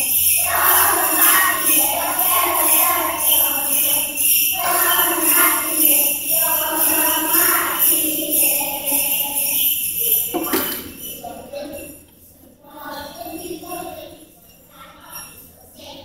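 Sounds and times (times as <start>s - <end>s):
children singing: 0.0s - 16.0s
small bells rattling in rhythm: 0.0s - 16.0s.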